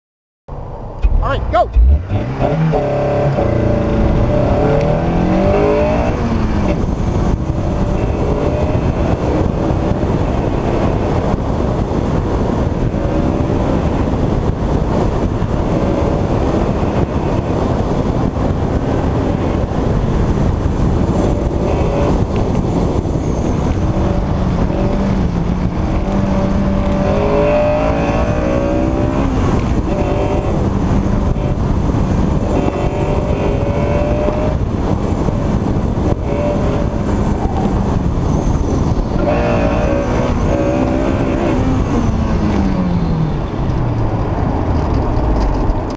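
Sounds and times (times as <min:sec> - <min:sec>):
steady rushing noise: 0:00.5 - 0:45.9
car engine revving: 0:01.0 - 0:45.9.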